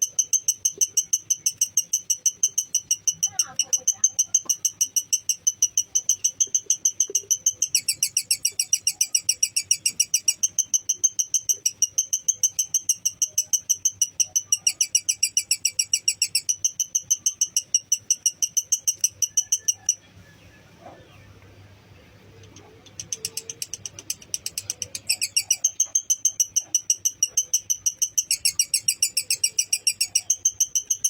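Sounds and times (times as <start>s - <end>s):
lovebird chattering: 0.0s - 20.2s, 22.1s - 31.0s.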